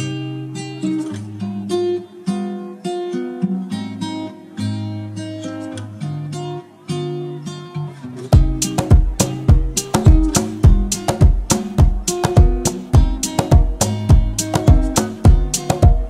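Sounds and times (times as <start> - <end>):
acoustic guitar plucked notes: 0.0 - 16.0.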